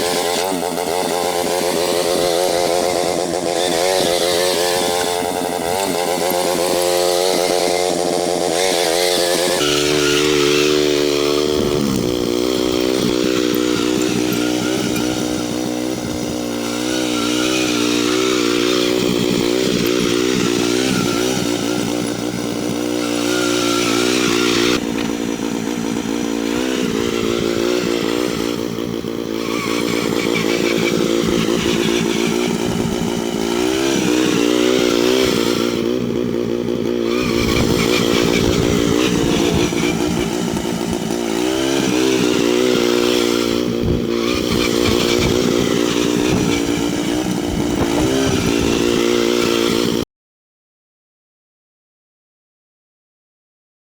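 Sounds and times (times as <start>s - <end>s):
lawn tractor engine running: 0.0s - 50.0s.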